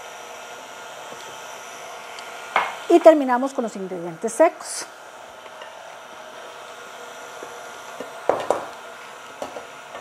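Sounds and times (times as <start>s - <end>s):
stand mixer running: 0.0s - 10.0s.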